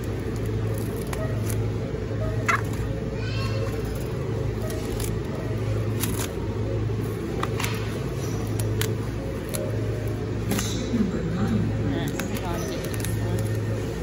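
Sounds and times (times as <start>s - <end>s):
refrigerator hum: 0.0s - 14.0s.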